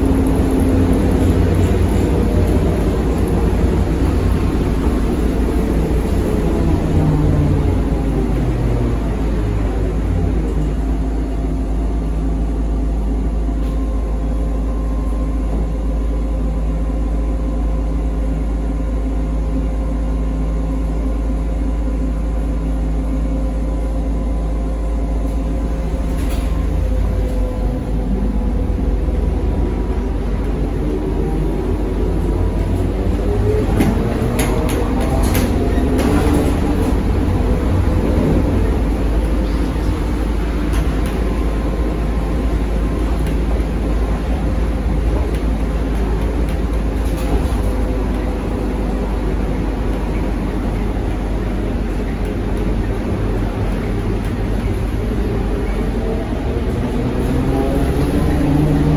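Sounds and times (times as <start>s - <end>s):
trolleybus rumble: 0.0s - 58.9s.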